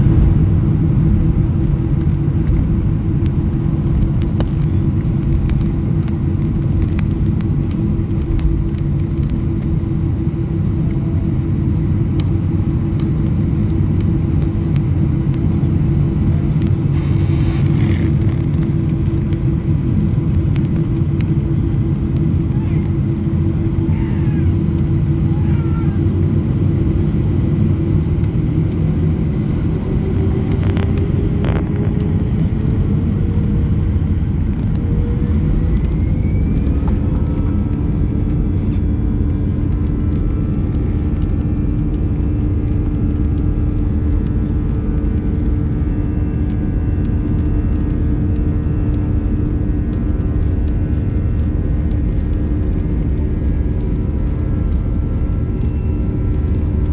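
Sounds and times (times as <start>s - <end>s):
heavy low rumble: 0.0s - 56.9s
jet engines running: 0.0s - 56.9s.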